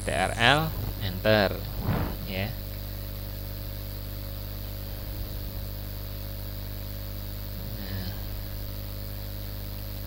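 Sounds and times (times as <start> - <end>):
electrical mains hum: 0.0 - 10.0
faint buzz and hiss: 0.0 - 10.0.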